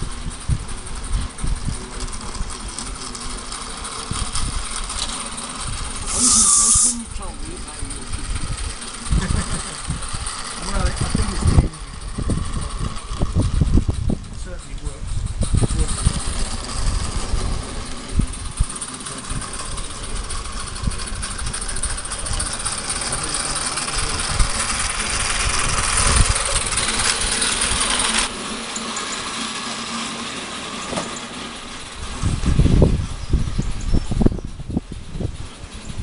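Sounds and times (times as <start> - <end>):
low rumbling: 0.0 - 36.0
steam locomotive hissing: 0.0 - 36.0.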